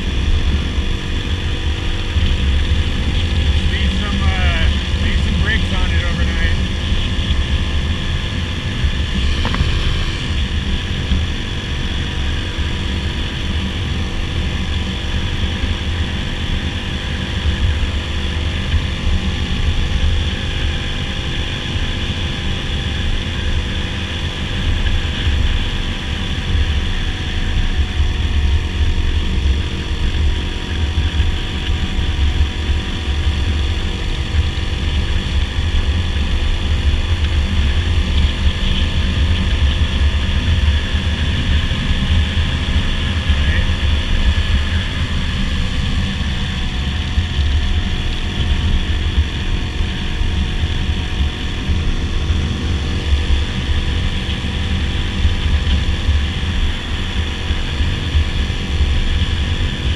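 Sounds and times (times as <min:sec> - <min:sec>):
dirt bike engine droning: 0:00.0 - 0:59.9.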